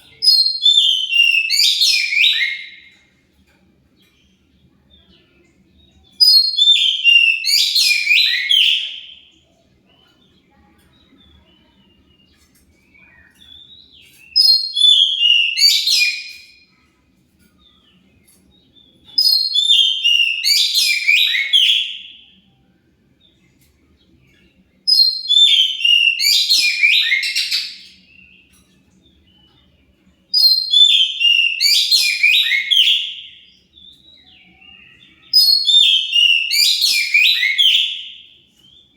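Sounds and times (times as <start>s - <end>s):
bird singing warbled phrases: 0.0s - 38.9s.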